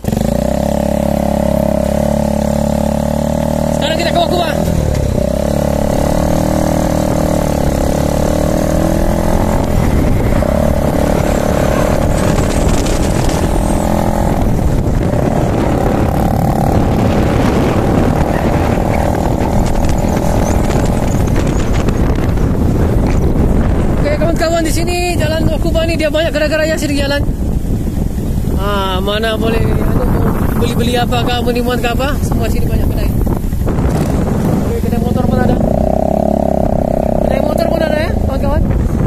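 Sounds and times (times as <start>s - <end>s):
motorcycle engine accelerating: 0.0s - 39.0s
wind rushing over microphone: 0.0s - 39.0s.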